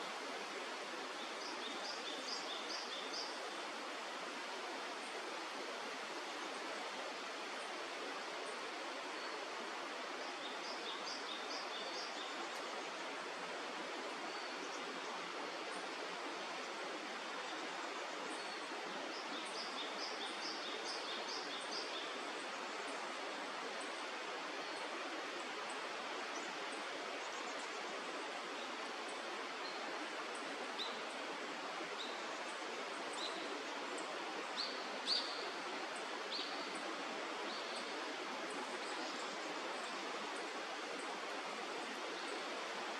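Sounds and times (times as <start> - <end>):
river water flowing: 0.0 - 42.9.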